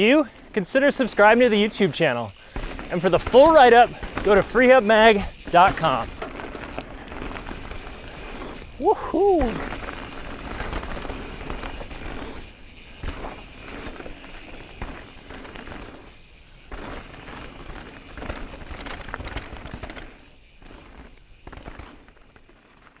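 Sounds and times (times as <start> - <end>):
rush of tyres over dirt: 0.0 - 23.0
bike clicks and knocks: 0.3 - 23.0.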